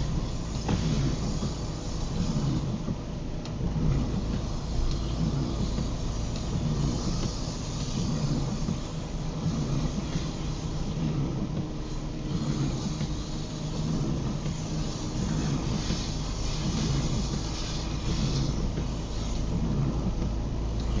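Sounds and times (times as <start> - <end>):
car engine and road rumble: 0.0 - 21.0
tyres hissing on wet road: 0.0 - 21.0.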